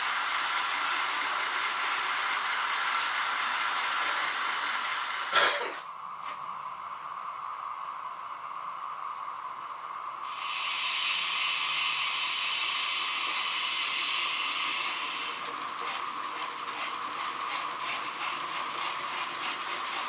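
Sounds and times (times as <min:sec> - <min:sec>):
model trains hissing: 0:00.0 - 0:05.8, 0:09.6 - 0:20.0.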